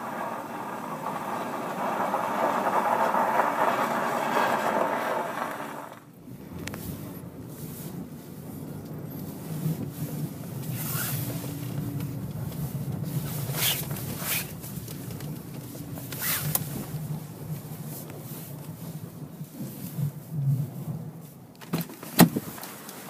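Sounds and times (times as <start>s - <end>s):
car engine drone: 0.0s - 23.0s.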